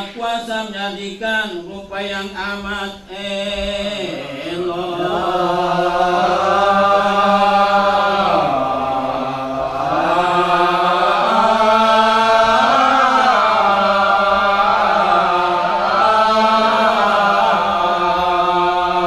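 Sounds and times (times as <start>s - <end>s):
man chanting in drawn-out notes: 0.0s - 19.0s.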